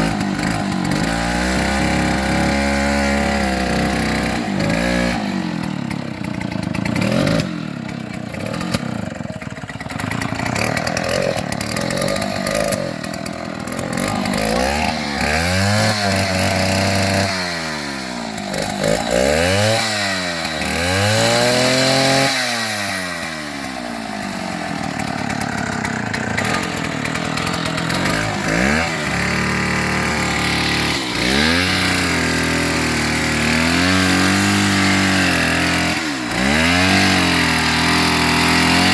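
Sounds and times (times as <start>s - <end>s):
engine revving: 0.0s - 38.9s.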